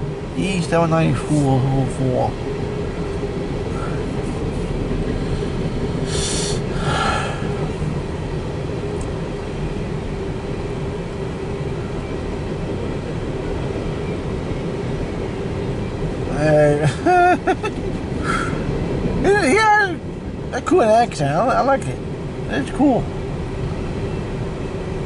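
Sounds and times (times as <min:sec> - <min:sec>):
train cars rumbling: 0:00.0 - 0:25.0.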